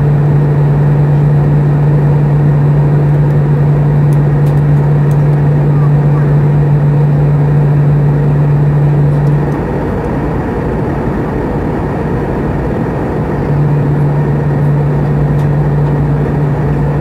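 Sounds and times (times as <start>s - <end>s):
jet engine airflow rush: 0.0s - 17.0s
low steady hum: 0.0s - 17.0s.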